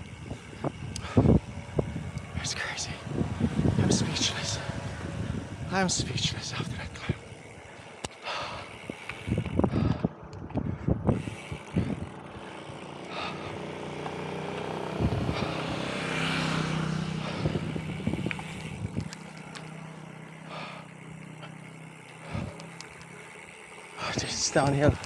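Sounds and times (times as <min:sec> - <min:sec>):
wind buffeting microphone: 0:00.0 - 0:20.4, 0:21.0 - 0:23.0, 0:24.0 - 0:25.0
vehicle engine passing: 0:00.0 - 0:25.0.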